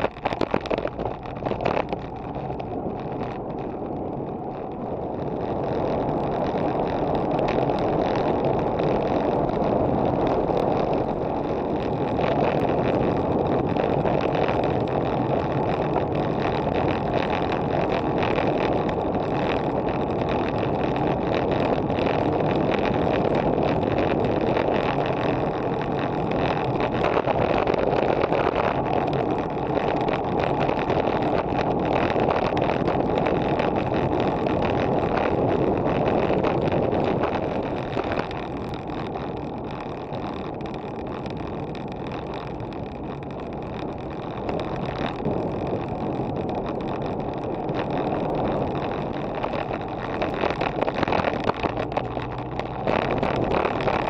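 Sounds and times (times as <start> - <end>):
bike tyre rumble on asphalt: 0.0 - 54.0
wind on microphone: 0.0 - 54.0.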